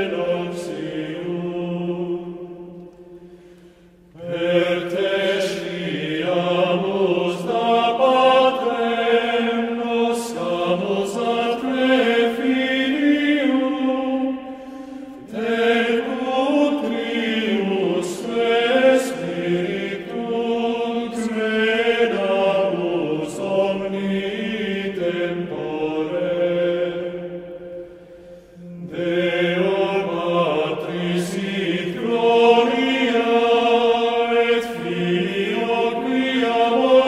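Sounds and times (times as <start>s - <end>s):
voices singing a chant: 0.0s - 37.0s.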